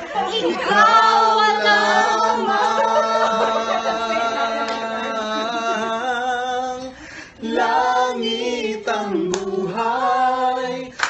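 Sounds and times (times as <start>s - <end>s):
man and woman singing together: 0.1s - 11.0s.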